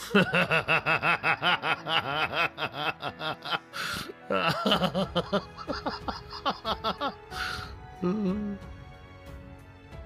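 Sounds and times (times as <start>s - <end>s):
man laughing in sleep: 0.0s - 8.5s.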